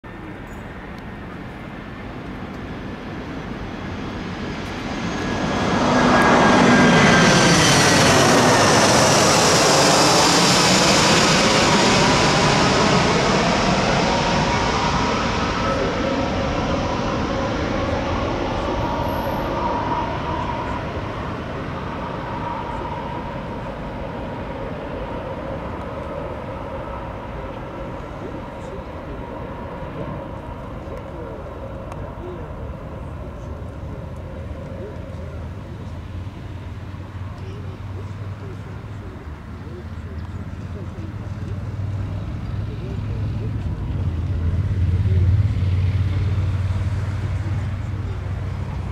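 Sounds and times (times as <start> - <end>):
jet airliner flying overhead: 0.1 - 48.9.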